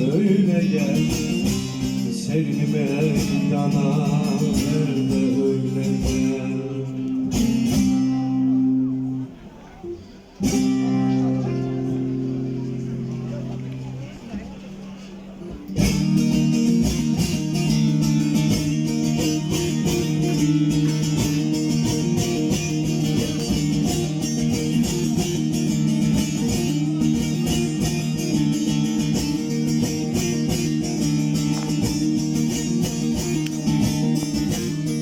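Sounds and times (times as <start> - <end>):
lute strumming over drone: 0.0 - 14.4, 15.4 - 35.0.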